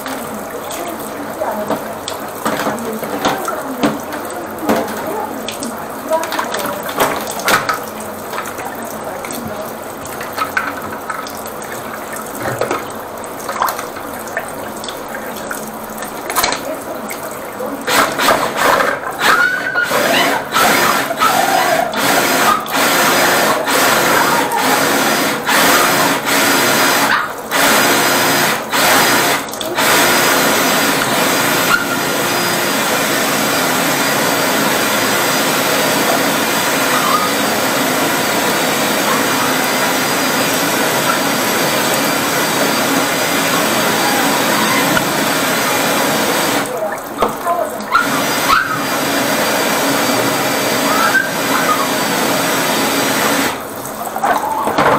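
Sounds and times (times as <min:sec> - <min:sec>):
drain-cleaning machine running: 0:00.0 - 0:54.9.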